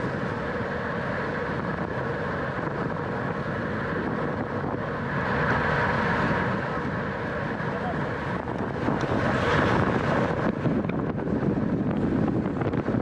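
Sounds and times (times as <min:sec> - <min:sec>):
bicycle tyre and drivetrain noise: 0:00.0 - 0:13.0
wind rushing over microphone: 0:00.0 - 0:13.0.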